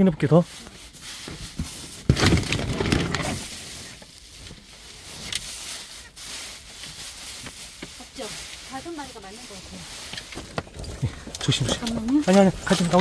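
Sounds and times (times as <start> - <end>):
netting rustling and scraping: 0.2 - 13.0.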